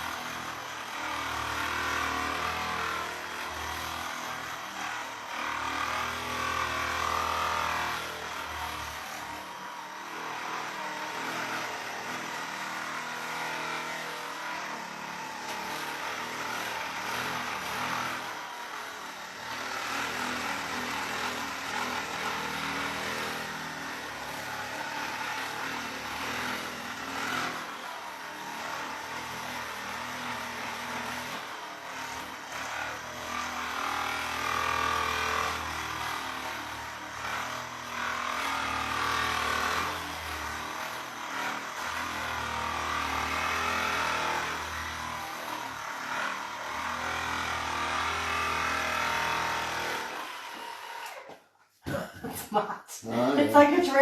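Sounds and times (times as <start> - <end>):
massage gun motor buzz: 0.0 - 51.4, 53.2 - 54.0.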